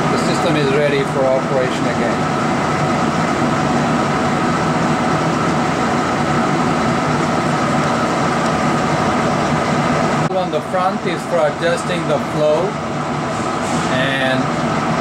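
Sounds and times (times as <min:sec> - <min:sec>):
machine humming and hissing: 0:00.0 - 0:15.0.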